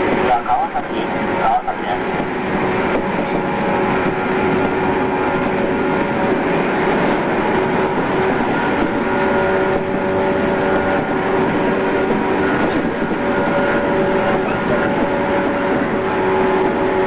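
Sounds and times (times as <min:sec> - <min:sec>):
running gear whine: 0:00.0 - 0:17.0
train wheels rumbling on rails: 0:00.0 - 0:17.0.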